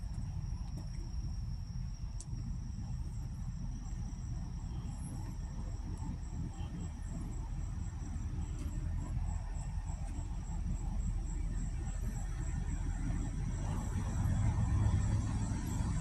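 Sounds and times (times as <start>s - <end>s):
insects whining: 0.0s - 16.0s
low continuous rumble: 0.0s - 16.0s
rapidly pulsing insect chirp: 0.0s - 16.0s.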